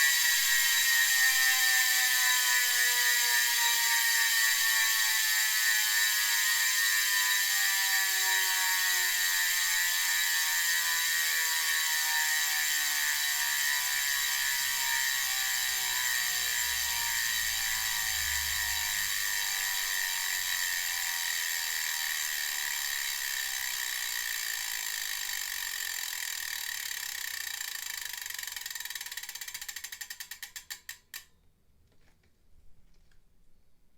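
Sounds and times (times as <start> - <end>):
bicycle freehub ratchet clicking: 0.0 - 31.4.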